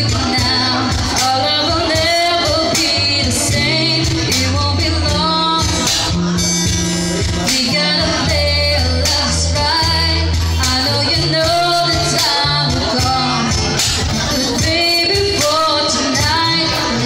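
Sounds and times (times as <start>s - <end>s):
person singing: 0.0s - 6.5s, 7.1s - 17.0s
band playing: 0.0s - 17.0s.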